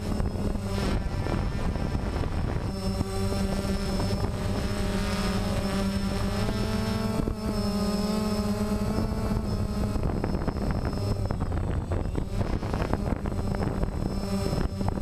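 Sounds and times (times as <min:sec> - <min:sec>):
drone propellers whirring: 0:00.0 - 0:15.0
wind buffeting on microphone: 0:00.0 - 0:15.0.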